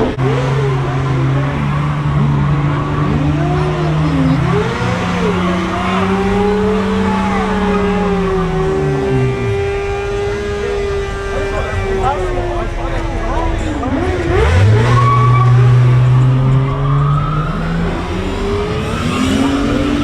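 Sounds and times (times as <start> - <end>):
car engine revving high: 0.0 - 20.0
tyres squealing: 0.0 - 20.0.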